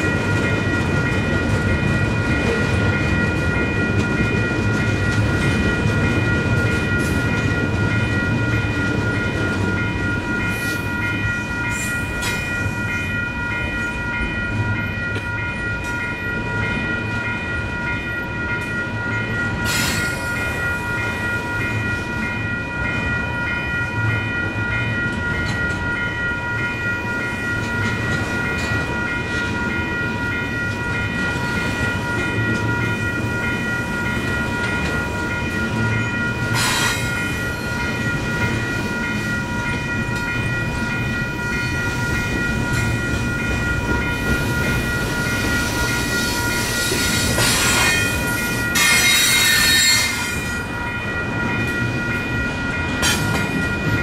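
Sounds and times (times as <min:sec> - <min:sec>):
crossing bells ringing: 0:00.0 - 0:54.0.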